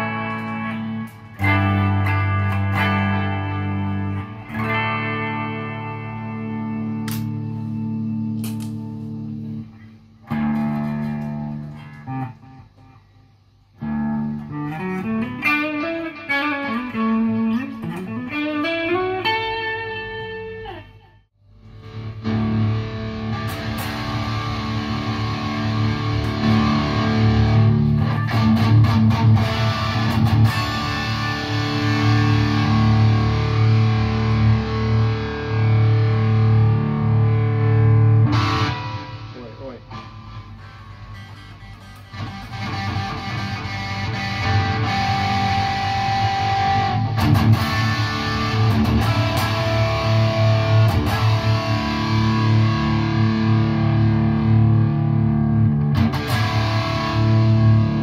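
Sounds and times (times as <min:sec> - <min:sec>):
electric guitar single notes: 0:00.0 - 0:13.2, 0:13.8 - 0:58.0
distorted electric guitar: 0:00.0 - 0:58.0.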